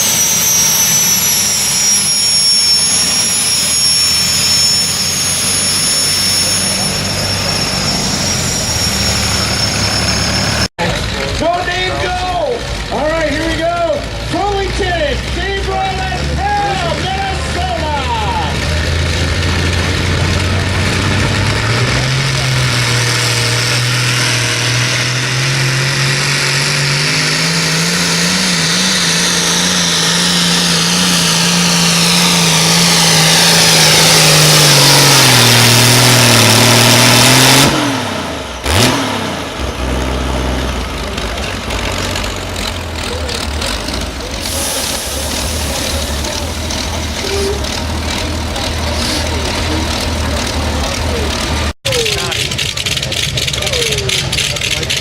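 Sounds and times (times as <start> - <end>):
tractor engine at full power: 0.0 - 55.0.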